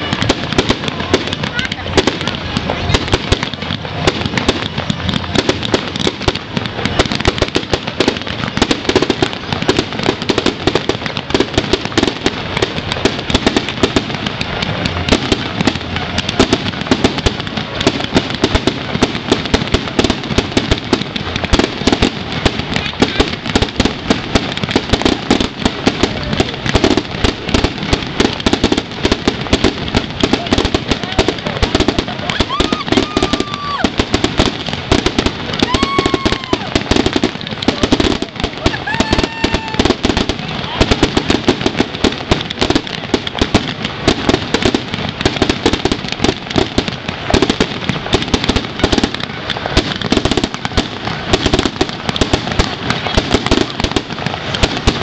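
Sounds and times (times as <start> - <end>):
fireworks popping rapidly: 0.0 - 55.0.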